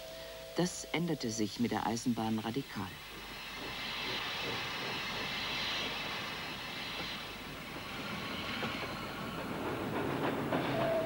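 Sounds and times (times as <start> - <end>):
steam train running: 0.0 - 11.0.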